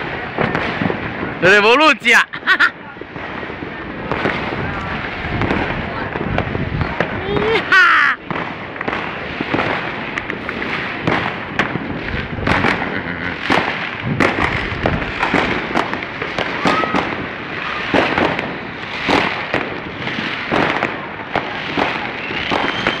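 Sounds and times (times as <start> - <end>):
fireworks and firecrackers banging: 0.0 - 23.0
whistling firework tone: 4.2 - 23.0.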